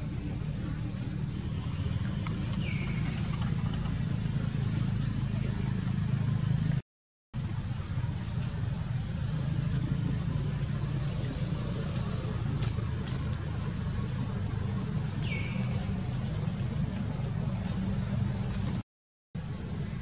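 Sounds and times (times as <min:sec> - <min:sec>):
low background rumble: 0:00.0 - 0:06.8, 0:07.4 - 0:18.8.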